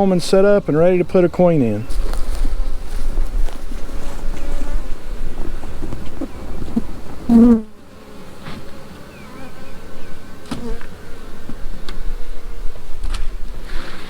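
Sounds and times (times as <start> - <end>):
bees buzzing: 0.0 - 14.0
bee passing close by: 1.8 - 14.0.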